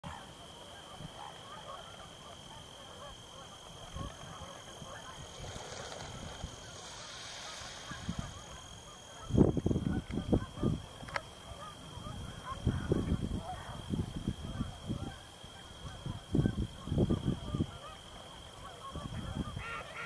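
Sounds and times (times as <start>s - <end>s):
distant waterfowl calling: 0.1s - 20.0s.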